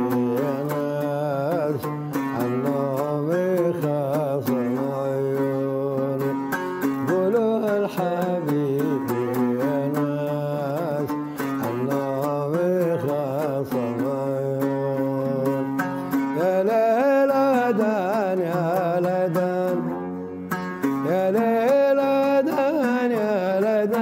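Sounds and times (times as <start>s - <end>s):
man singing: 0.0s - 24.0s
oud plucked: 0.0s - 24.0s.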